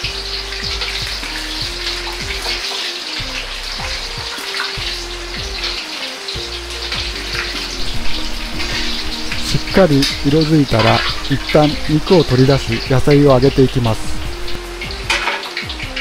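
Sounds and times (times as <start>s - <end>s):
background music: 0.0s - 16.0s
oil sizzling and crackling: 0.0s - 16.0s.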